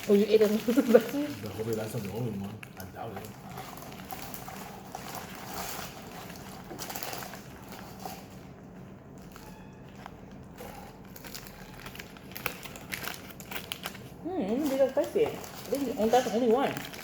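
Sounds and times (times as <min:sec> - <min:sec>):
crunchy chewing: 0:00.0 - 0:17.0
food wrapping crinkling: 0:00.0 - 0:17.0.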